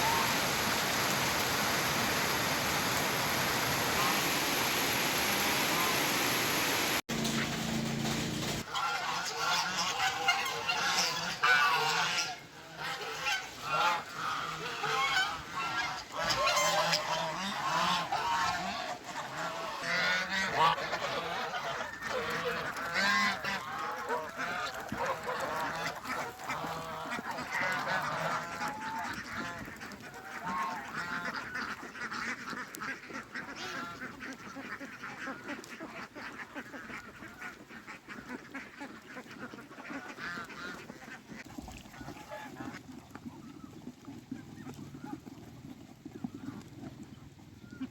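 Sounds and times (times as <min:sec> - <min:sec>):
geese honking: 0:00.0 - 0:42.8.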